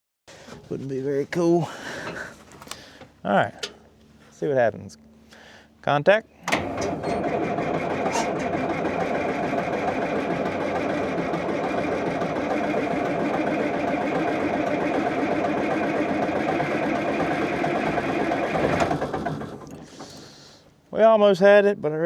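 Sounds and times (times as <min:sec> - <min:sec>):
diesel engine cranking on starter: 0:00.3 - 0:20.9.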